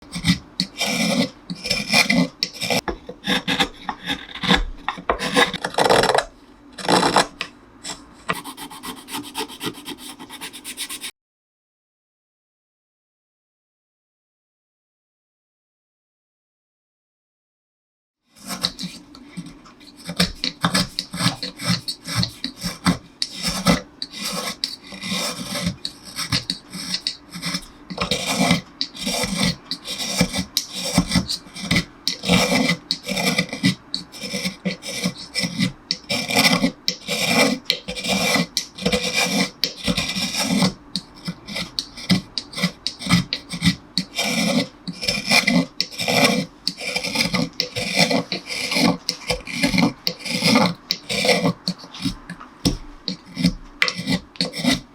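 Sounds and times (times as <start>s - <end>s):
hand tool rasping wood: 0.0s - 6.2s, 8.3s - 11.1s, 18.4s - 54.9s.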